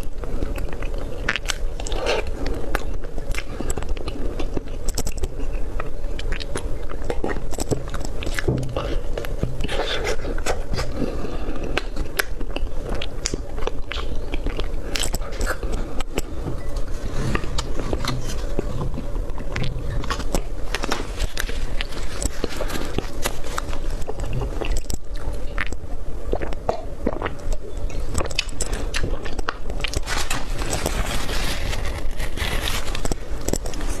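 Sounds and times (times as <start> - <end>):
wet chewing mouth sounds: 0.0 - 34.0.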